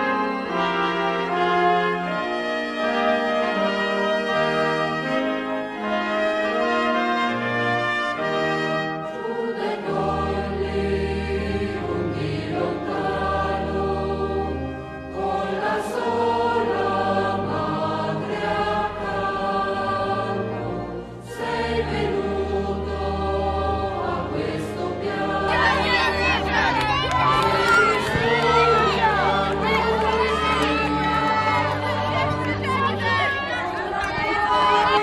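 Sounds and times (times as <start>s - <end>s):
choir singing held chords: 0.0s - 35.0s
orchestral accompaniment: 0.0s - 35.0s.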